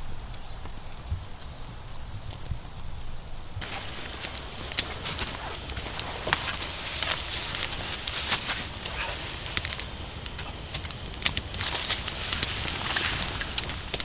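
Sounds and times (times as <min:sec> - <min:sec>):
faint steady hiss: 0:00.0 - 0:14.0
sharp crackles and snaps: 0:00.3 - 0:14.0.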